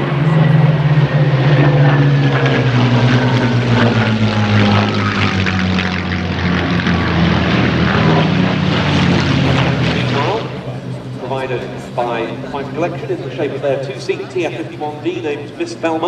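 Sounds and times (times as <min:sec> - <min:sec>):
propeller plane engines passing overhead: 0:00.0 - 0:16.0.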